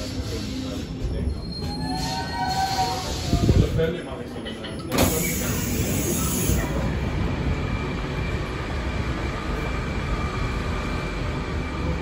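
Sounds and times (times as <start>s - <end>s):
metro train running noise: 0.0s - 12.0s.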